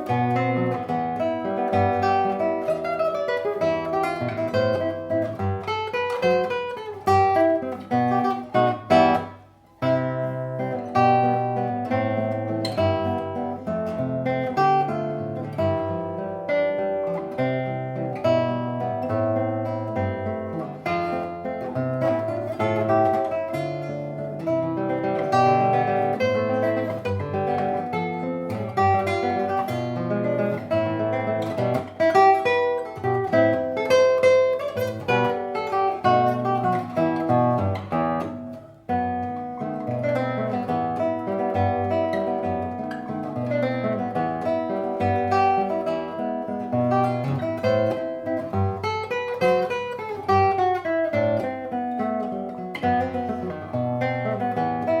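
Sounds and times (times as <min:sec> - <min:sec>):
solo guitar playing a waltz: 0:00.0 - 0:55.0.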